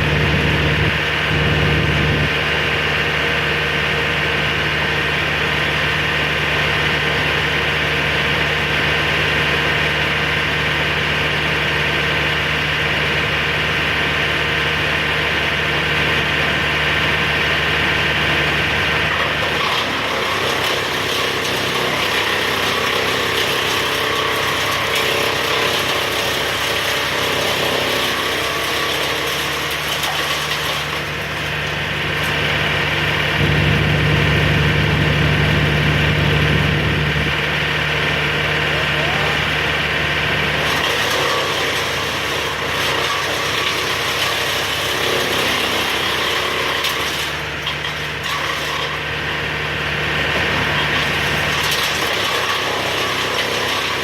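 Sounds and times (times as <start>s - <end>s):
work machine engine running: 0.0s - 54.0s.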